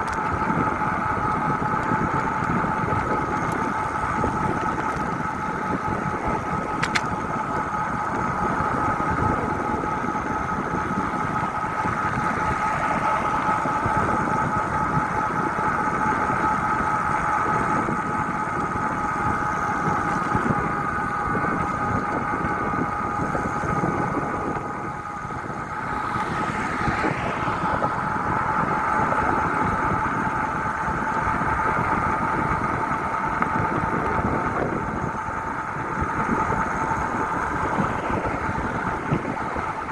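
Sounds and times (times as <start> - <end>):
constant hum with steady tones: 0.0 - 39.9
faint rising and falling whine: 0.0 - 39.9
wind on microphone: 0.0 - 39.9.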